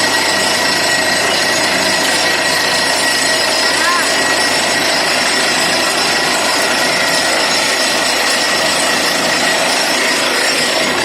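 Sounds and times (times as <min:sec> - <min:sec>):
drilling rig running: 0:00.0 - 0:11.0.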